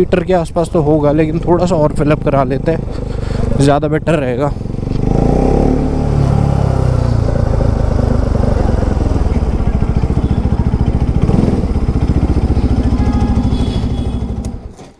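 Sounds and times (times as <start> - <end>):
motorcycle engine idling: 0.0 - 5.5, 6.4 - 14.8.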